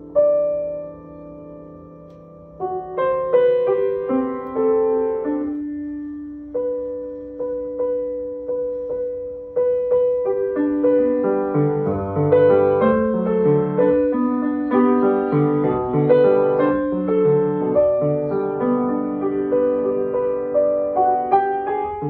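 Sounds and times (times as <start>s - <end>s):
grand piano piece: 0.0s - 22.0s.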